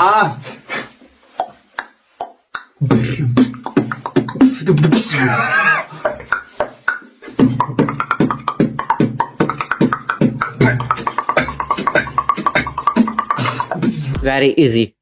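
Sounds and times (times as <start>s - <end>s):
beatboxing clicks and beats: 1.2s - 5.1s, 5.9s - 14.3s
warbling high vocal sound: 1.3s - 14.2s.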